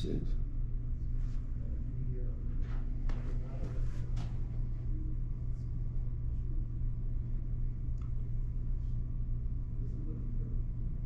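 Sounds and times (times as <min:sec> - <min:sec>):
low room tone hum: 0:00.0 - 0:11.0.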